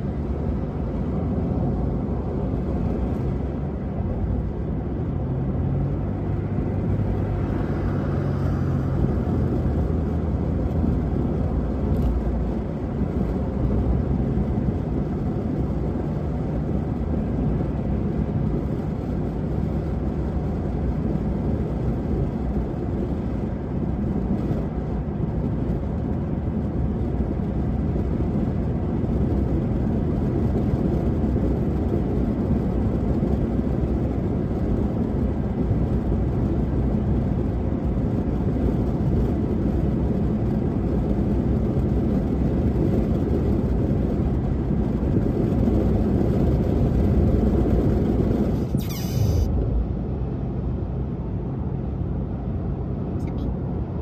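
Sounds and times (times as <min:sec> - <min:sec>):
tyre and engine drone: 0:00.0 - 0:27.3, 0:28.0 - 0:54.0.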